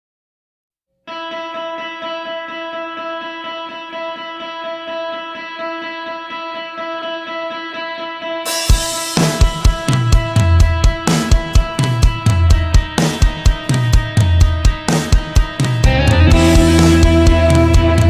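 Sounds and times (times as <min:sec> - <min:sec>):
guitar picking repeating figure: 0:01.1 - 0:18.0.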